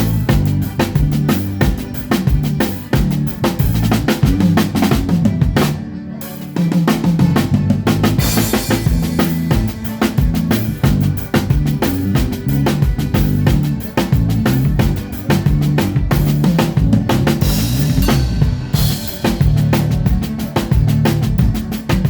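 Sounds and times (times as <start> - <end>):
drum kit groove: 0.0 - 22.0
low band instruments: 0.0 - 22.0.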